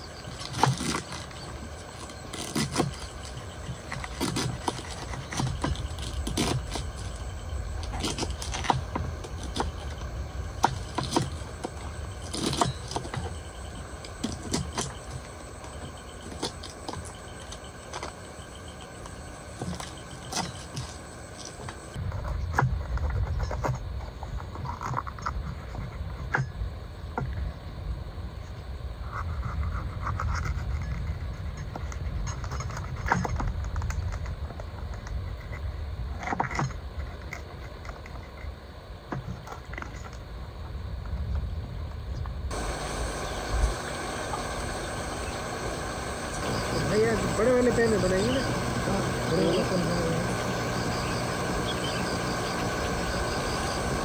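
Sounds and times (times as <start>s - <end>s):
low steady rumble: 0.0s - 54.0s.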